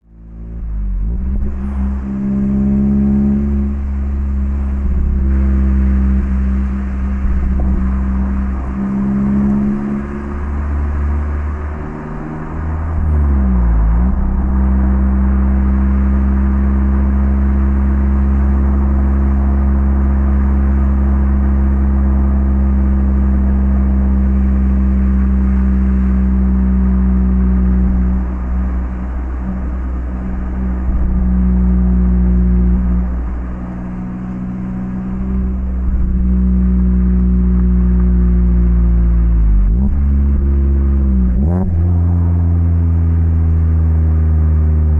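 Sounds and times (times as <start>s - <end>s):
car engine while driving: 0.0s - 44.9s.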